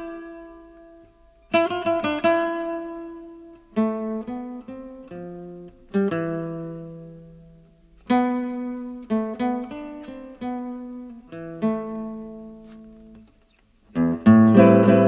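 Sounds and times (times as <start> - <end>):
acoustic guitar plucked chords: 0.0 - 15.0.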